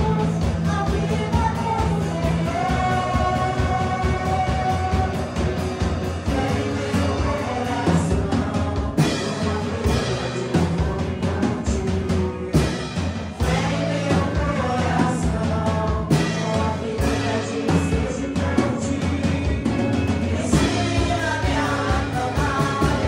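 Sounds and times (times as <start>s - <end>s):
bass and guitar: 0.0s - 23.0s
drum kit with cymbal crashes: 0.0s - 23.0s
women singing: 0.0s - 23.0s.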